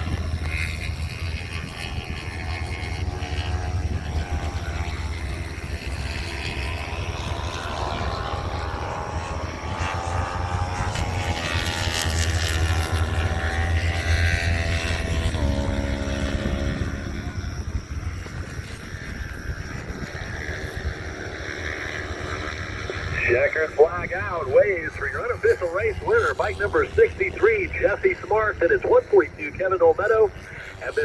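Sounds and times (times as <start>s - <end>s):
racing motorcycles passing by: 0.0s - 31.0s.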